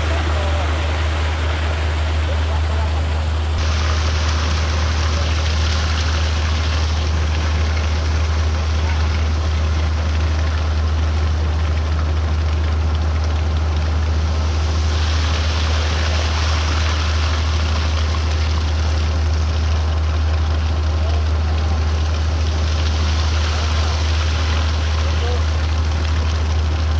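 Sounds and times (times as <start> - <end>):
continuous rushing noise: 0.0 - 26.9
machinery engine low drone: 0.0 - 26.9.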